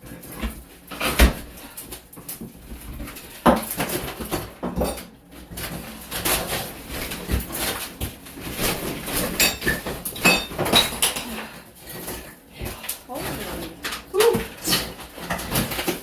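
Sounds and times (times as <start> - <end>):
wall material breaking: 0.0 - 16.0.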